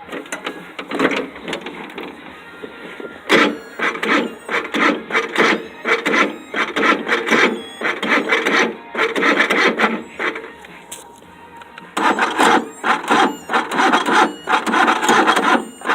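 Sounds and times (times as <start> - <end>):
engine cranking slowly: 0.0 - 15.9.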